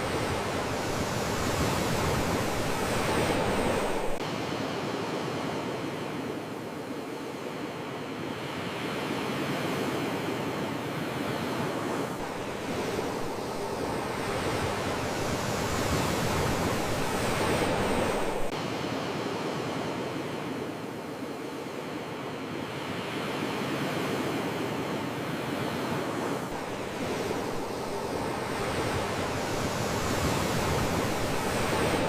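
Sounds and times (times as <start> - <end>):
ocean waves on shore: 0.0 - 32.0.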